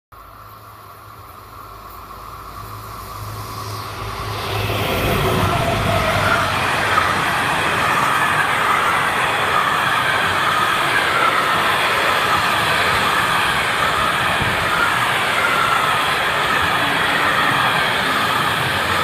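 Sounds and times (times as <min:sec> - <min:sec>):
freight train wheels rumbling: 0:00.2 - 0:19.0.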